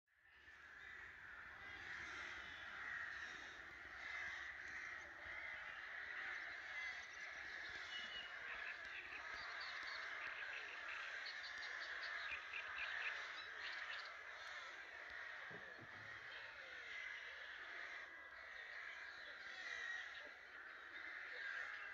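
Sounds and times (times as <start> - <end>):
crows cawing: 0.3 - 21.9.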